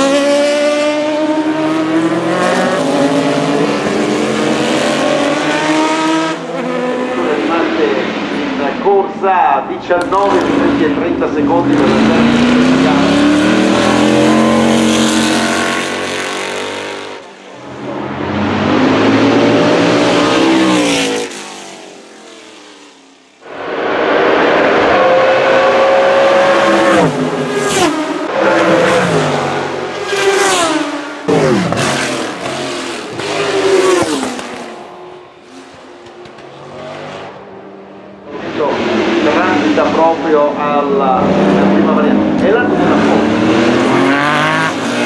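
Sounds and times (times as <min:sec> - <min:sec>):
race cars passing at speed: 0:00.0 - 0:45.0.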